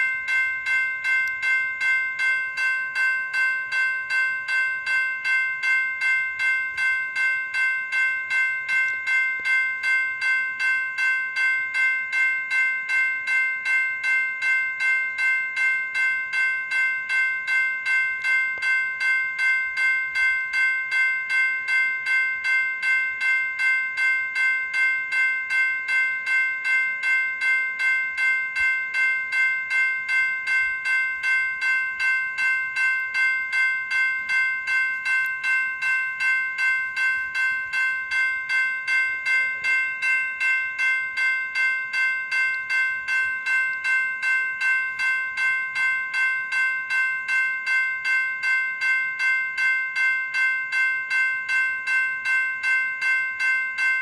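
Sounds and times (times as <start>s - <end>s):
electronic bell ringing: 0.0s - 54.0s.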